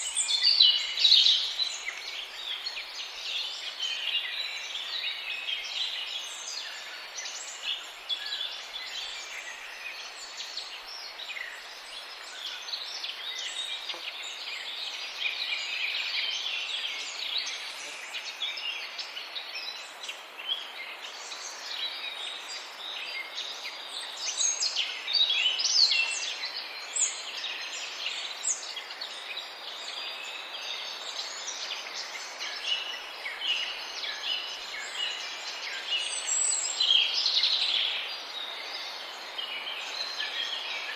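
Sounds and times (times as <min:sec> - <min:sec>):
birds chirping in chorus: 0:00.0 - 0:40.9.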